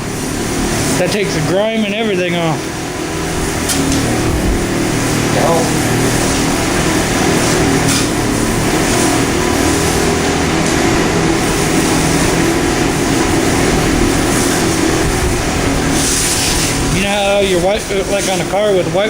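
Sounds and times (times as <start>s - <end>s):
machine drone: 0.0s - 19.0s
steady hiss: 0.0s - 19.0s.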